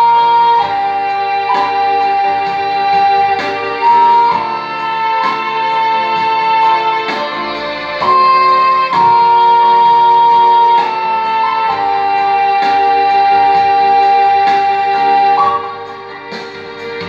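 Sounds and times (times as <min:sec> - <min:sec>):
flute playing slow melody: 0:00.0 - 0:17.0
recorded musical accompaniment: 0:00.0 - 0:17.0.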